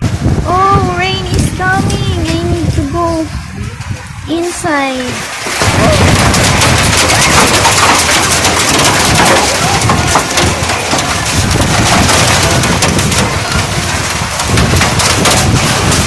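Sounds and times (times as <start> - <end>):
heavy rain pouring: 0.0 - 16.0
wind buffeting microphone: 0.0 - 16.0.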